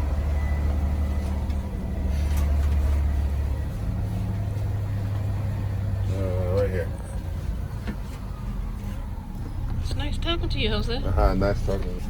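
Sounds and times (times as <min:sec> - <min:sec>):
bus diesel engine hum: 0:00.0 - 0:12.0.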